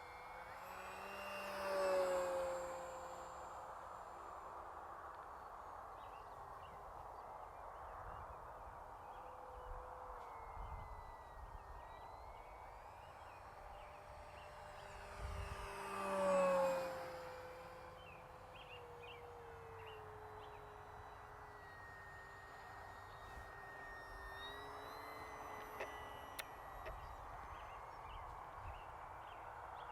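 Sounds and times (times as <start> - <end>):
model plane motor whine: 0.0 - 29.9.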